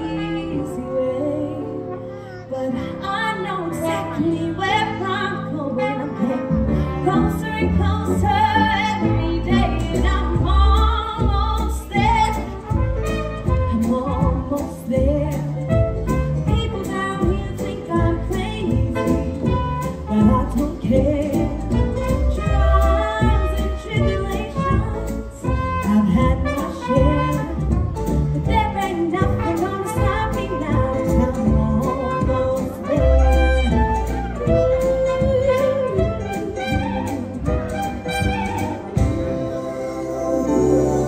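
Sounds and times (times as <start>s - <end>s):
band with trumpet: 0.0s - 41.0s
woman singing: 0.0s - 41.0s.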